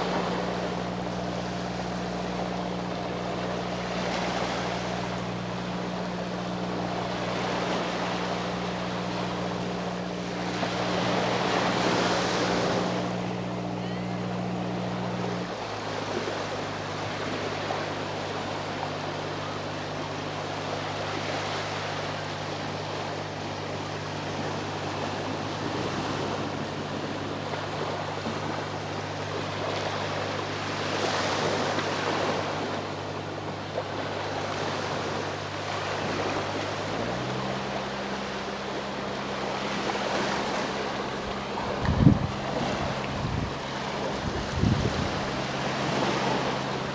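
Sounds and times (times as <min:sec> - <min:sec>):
boat engine hum: 0:00.0 - 0:46.9
sea waves washing onto shore: 0:00.0 - 0:46.9.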